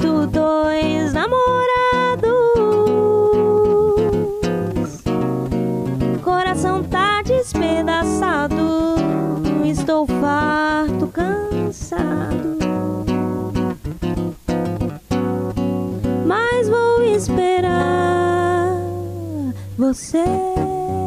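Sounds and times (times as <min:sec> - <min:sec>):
woman singing slow song: 0:00.0 - 0:05.1, 0:06.2 - 0:13.2, 0:16.2 - 0:21.0
acoustic guitar: 0:00.0 - 0:21.0.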